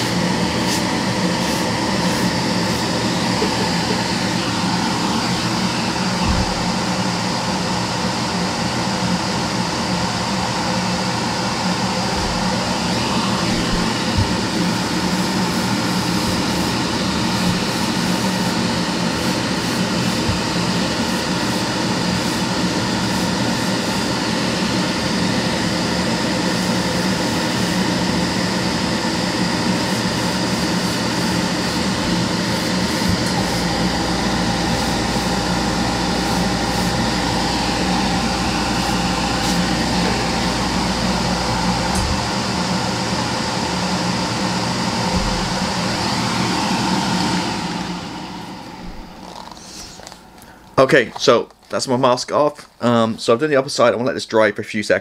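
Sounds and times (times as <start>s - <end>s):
low motor hum: 0.0s - 50.8s
extractor fan air rush: 0.0s - 51.8s.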